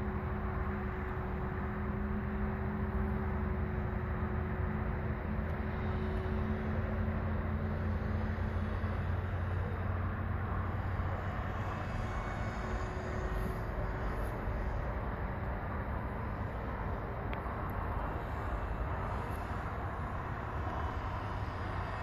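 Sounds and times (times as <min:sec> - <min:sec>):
low drone: 0:00.0 - 0:22.0.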